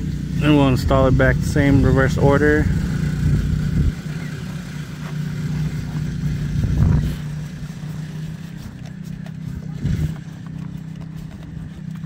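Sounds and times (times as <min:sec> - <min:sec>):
rubbing and handling rubber cover: 0:00.0 - 0:12.0
vehicle engine idling hum: 0:00.0 - 0:12.0.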